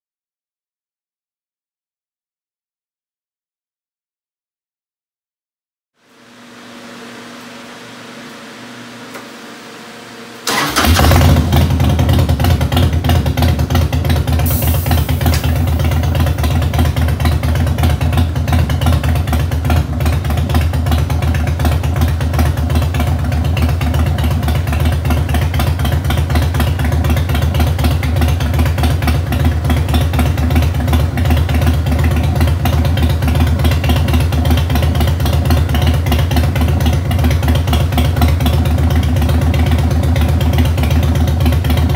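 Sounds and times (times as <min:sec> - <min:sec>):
motorcycle engine starting and idling: 0:06.8 - 0:41.9.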